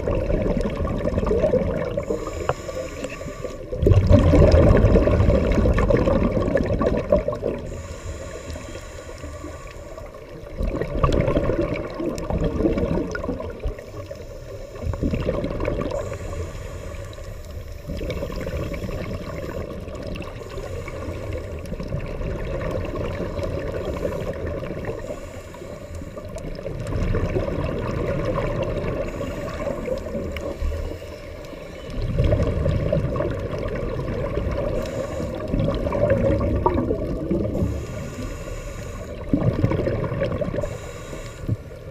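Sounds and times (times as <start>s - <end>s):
underwater regulator bubbles: 0.0s - 41.9s.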